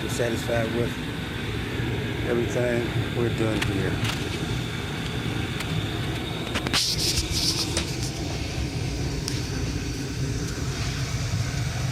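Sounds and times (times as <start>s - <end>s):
gas furnace low rumble: 0.0s - 11.9s.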